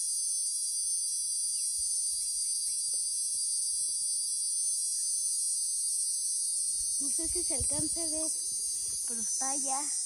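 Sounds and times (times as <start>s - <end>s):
cicada buzzing: 0.0s - 10.0s.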